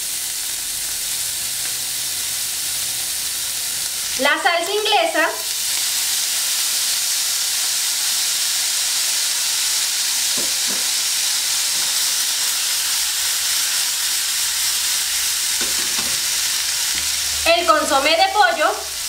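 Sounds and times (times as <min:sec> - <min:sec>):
sausages sizzling in oil: 0:00.0 - 0:19.0.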